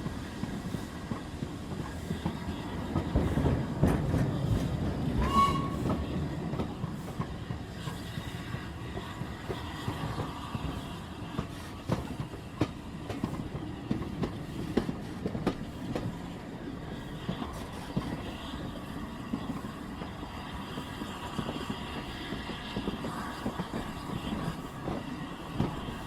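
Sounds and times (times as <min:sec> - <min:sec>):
rail clacks: 0:00.0 - 0:26.0
train rumbling on rails: 0:00.0 - 0:26.0.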